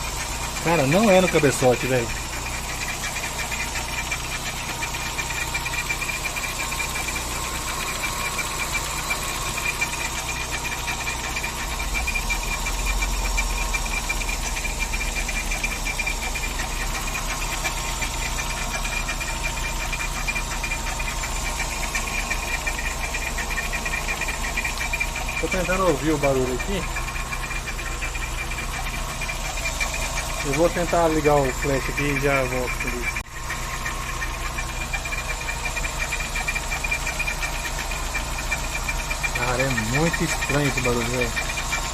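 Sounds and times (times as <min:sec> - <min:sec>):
car engine running: 0:00.0 - 0:41.9
fast pulsing engine noise: 0:00.0 - 0:41.9.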